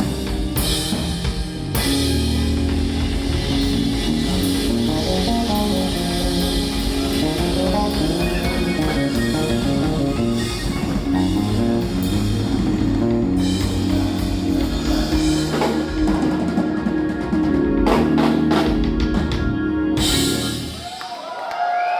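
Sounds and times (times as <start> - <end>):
electric bass: 0.0 - 21.0
held keyboard chords: 0.0 - 21.0.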